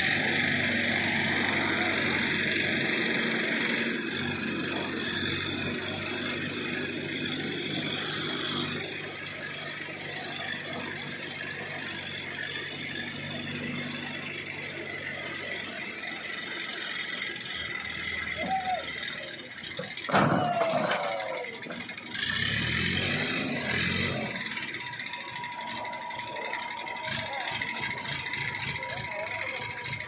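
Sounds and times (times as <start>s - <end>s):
crane engine running under load: 0.0s - 30.0s.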